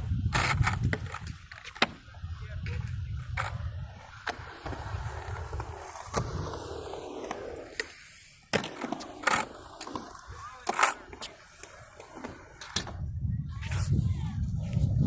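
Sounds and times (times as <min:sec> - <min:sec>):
skateboard wheels rolling on concrete: 0:00.0 - 0:15.0
skateboard clacking on ground: 0:00.3 - 0:13.0.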